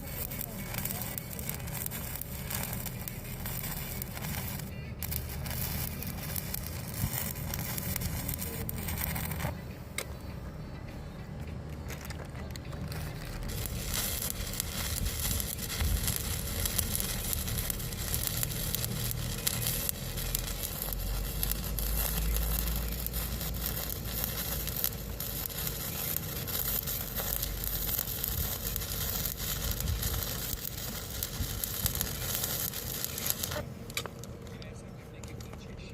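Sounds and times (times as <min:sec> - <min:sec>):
welding arc crackling: 0:00.0 - 0:10.1, 0:11.3 - 0:35.9.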